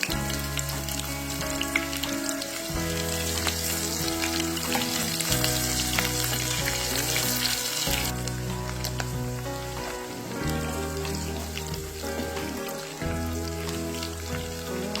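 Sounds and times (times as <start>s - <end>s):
food sizzling in a pan: 0.0s - 15.0s
soft background music: 0.0s - 15.0s.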